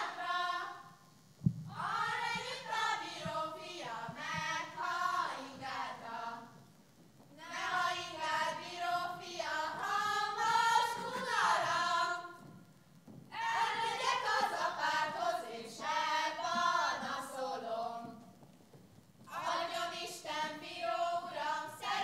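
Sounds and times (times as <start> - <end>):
women and girls singing folk song: 0.0 - 18.4, 19.2 - 22.0.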